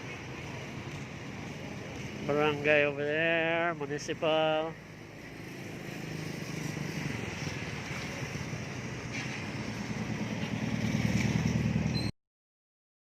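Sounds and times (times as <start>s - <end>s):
street traffic: 0.0s - 12.1s.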